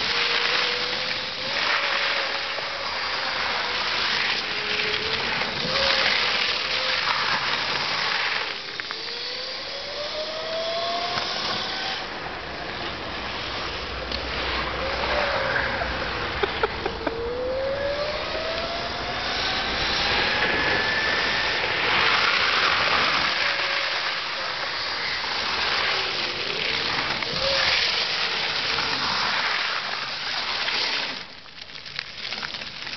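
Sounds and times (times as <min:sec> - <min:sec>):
rushing noise of passing kart: 0:00.0 - 0:31.2
electric go-kart motor whining: 0:00.0 - 0:31.3.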